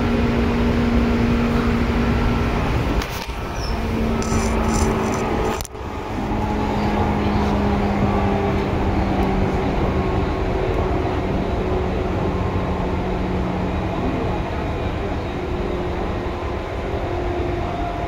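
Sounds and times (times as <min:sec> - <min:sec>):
electric train rolling: 0:00.0 - 0:18.0
low train hum: 0:00.0 - 0:18.0.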